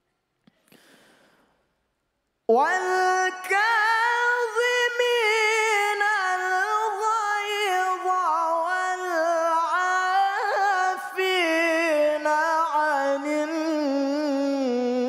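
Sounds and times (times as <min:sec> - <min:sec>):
man chanting melodically: 0:02.5 - 0:15.0.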